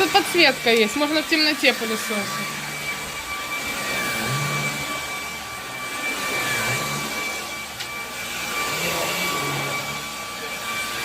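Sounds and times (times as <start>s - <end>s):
vacuum cleaner running on carpet: 0.0s - 11.0s.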